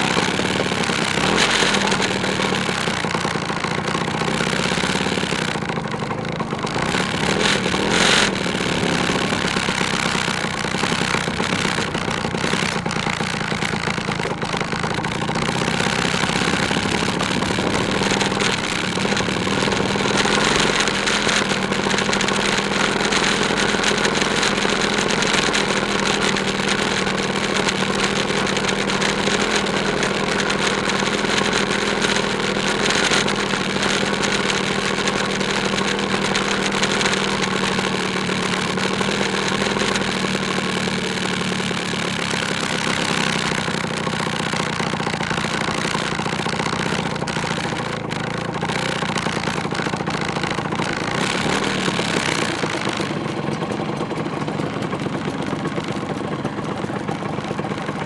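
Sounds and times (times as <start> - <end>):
two-stroke scooter engines: 0.0 - 58.0.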